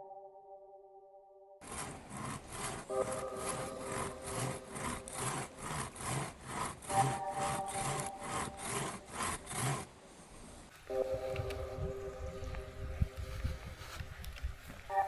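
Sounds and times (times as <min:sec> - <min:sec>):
hand saw cutting wood: 0:01.6 - 0:15.0.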